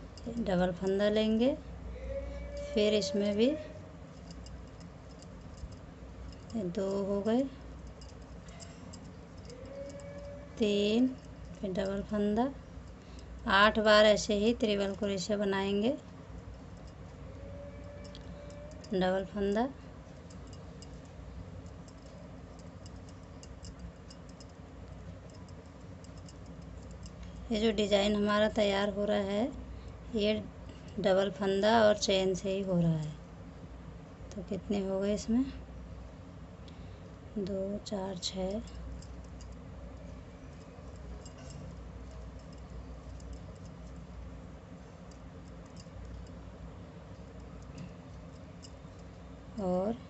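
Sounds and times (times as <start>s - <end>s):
low steady background noise: 0.0s - 50.0s
steady low hum: 0.0s - 50.0s.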